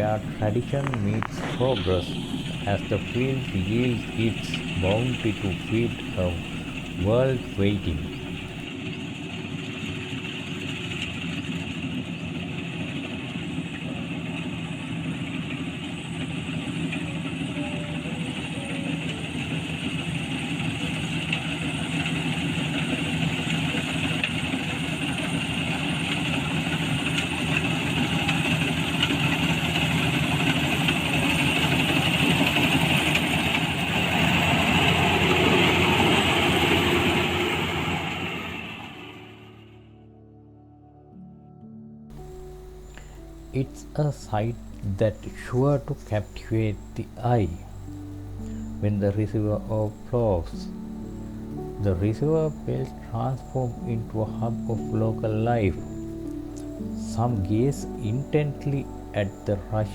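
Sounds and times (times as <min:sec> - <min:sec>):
combine harvester running: 0:00.0 - 0:08.7, 0:12.8 - 0:39.7, 0:42.2 - 0:59.9.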